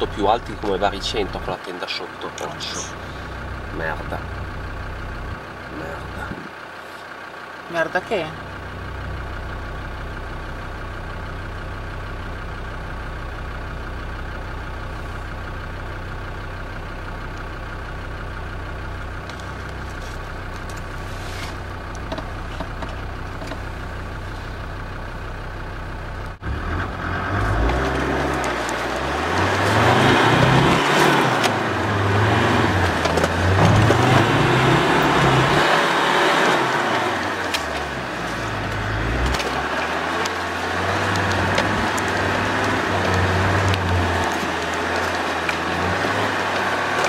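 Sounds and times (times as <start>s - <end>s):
engine idling and revving: 0.0s - 47.0s.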